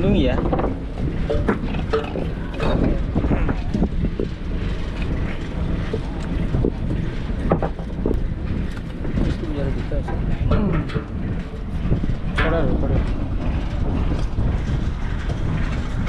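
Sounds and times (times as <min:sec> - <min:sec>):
boat engine running: 0:00.0 - 0:16.0
knocks and clatter on deck: 0:00.0 - 0:16.0
wind buffeting microphone: 0:00.0 - 0:16.0.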